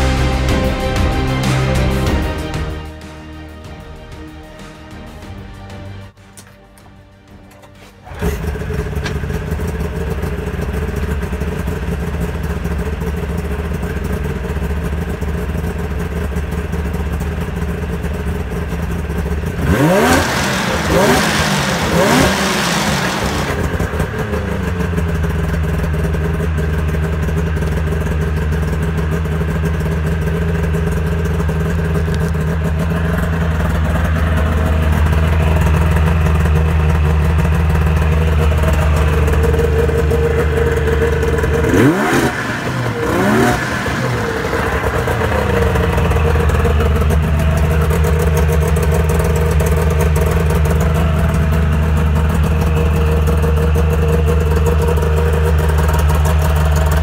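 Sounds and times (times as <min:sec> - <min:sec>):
two-stroke engine idling and revving: 0:00.0 - 0:03.1, 0:06.4 - 0:57.0.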